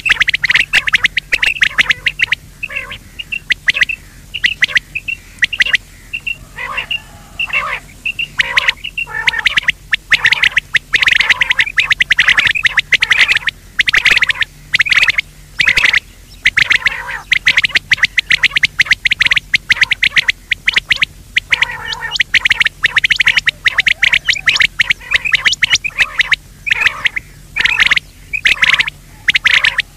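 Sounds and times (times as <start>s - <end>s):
faint steady hum: 0.0s - 29.9s
recorded quail calls: 0.0s - 29.9s.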